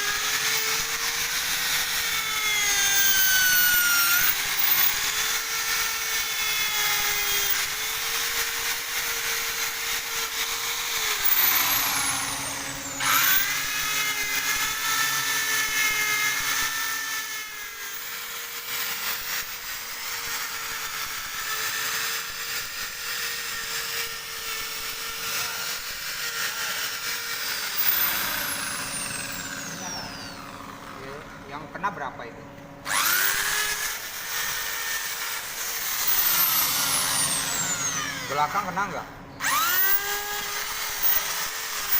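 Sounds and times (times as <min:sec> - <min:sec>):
electric drill motor whine: 0:00.0 - 0:31.6, 0:32.8 - 0:41.9.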